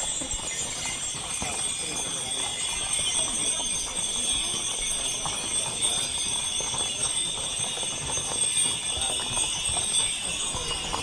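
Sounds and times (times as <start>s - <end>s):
horse hooves on asphalt: 0.0s - 11.0s.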